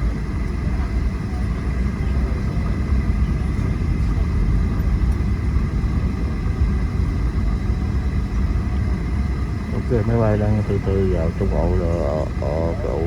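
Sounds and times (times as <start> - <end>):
airliner cabin rumble: 0.0 - 13.0
faint steady whine: 0.0 - 13.0.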